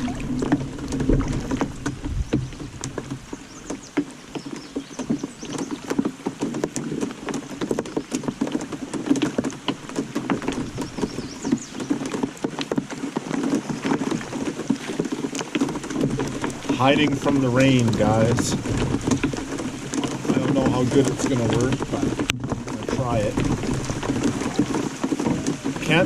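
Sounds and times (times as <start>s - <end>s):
heavy rain pattering: 0.0s - 26.0s.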